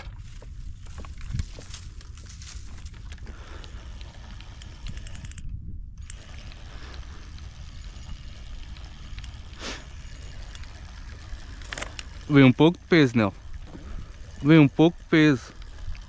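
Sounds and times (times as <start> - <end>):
steady low rumble: 0.0 - 16.0
fishing reel gears ticking: 2.9 - 16.0.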